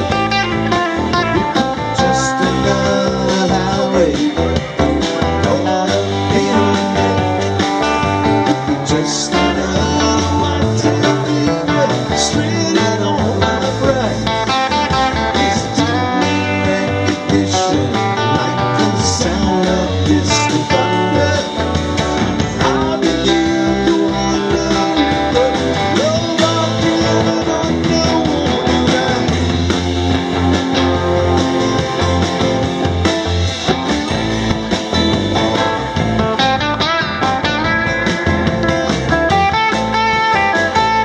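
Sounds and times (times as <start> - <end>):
electric and acoustic guitars: 0.0 - 41.0
live rock band playing: 0.0 - 41.0.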